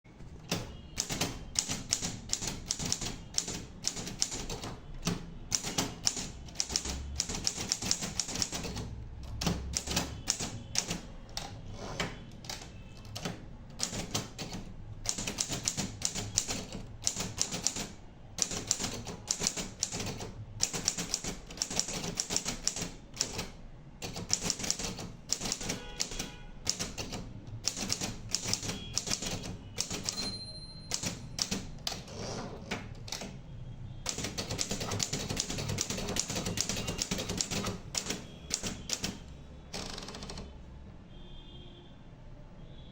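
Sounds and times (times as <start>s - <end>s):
typewriter key strikes: 0.4s - 32.1s, 34.1s - 40.5s.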